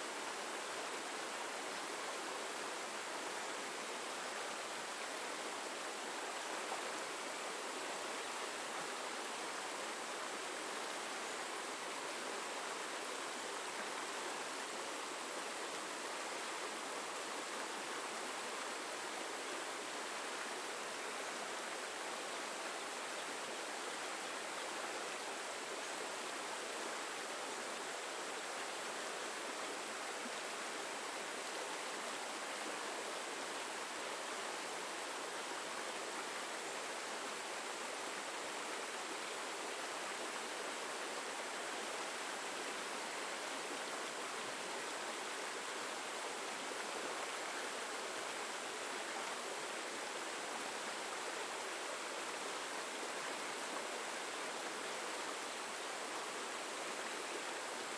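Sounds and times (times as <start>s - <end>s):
stream rushing over rocks: 0.0s - 57.9s.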